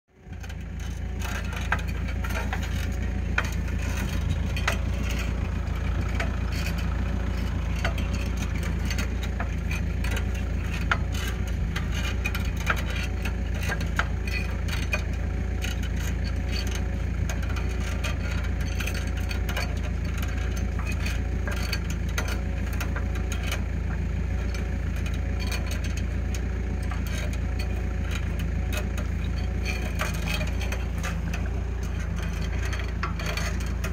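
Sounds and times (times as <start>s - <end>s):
diesel engine running: 0.1s - 33.9s
wire clicking and rattling on reel: 0.2s - 33.9s.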